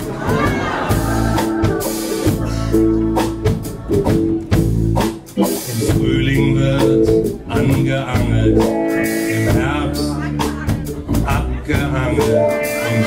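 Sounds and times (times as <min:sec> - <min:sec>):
double bass: 0:00.0 - 0:13.0
guitar: 0:00.0 - 0:13.0.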